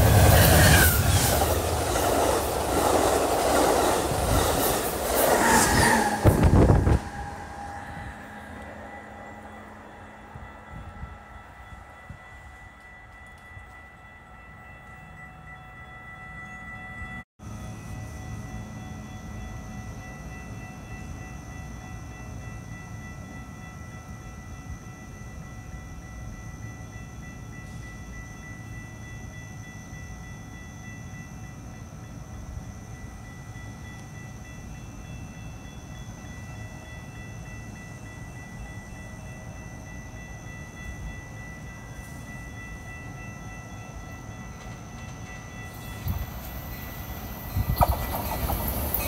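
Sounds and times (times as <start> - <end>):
distant train rumble: 0.0 - 49.0.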